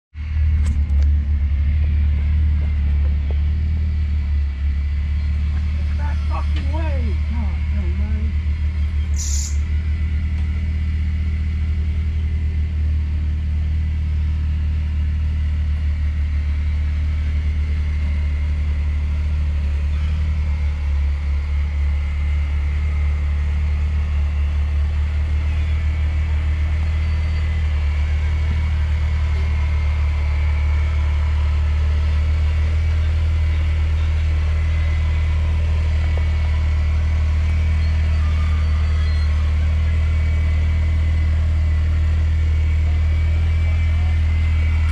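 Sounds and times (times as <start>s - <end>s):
off-road vehicle engine rumbling: 0.1s - 44.9s.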